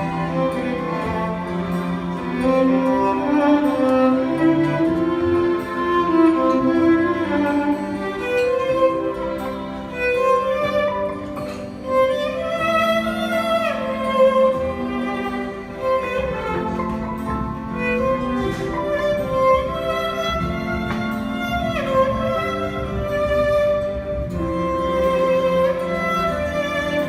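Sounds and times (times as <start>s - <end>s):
violin melody: 0.0s - 27.0s.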